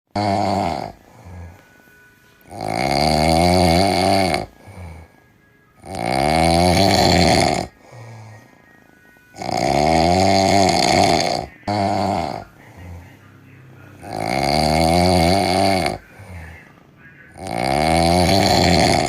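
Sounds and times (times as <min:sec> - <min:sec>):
cat snoring: 0:00.1 - 0:01.8, 0:02.4 - 0:08.6, 0:09.3 - 0:13.2, 0:13.9 - 0:16.6, 0:17.3 - 0:19.0.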